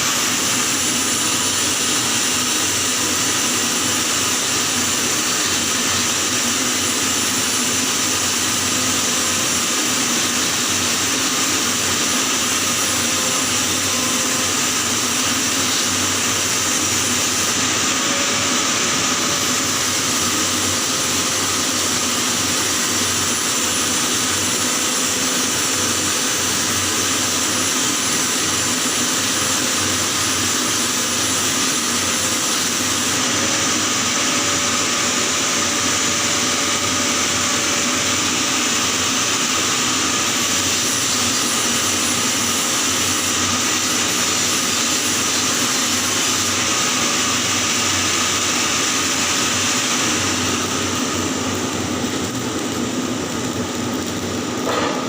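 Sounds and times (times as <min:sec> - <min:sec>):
welding arc hissing: 0:00.0 - 0:55.0.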